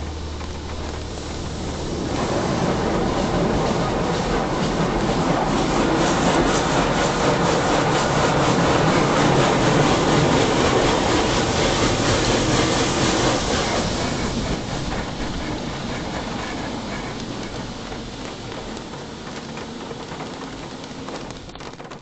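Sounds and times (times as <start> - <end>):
water jets spraying car: 0.0 - 22.0.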